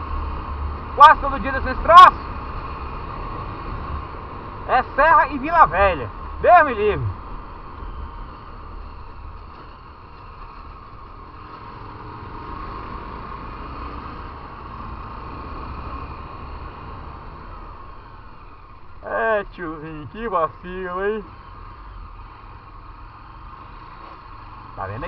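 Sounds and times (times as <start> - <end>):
motorcycle engine rumble: 0.0 - 25.0.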